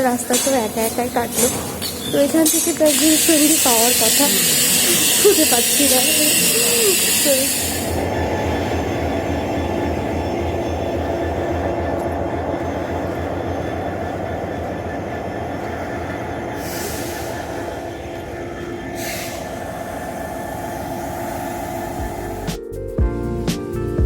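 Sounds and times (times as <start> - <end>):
train rumbling on rails: 0.0 - 23.3
held tones: 2.1 - 22.6.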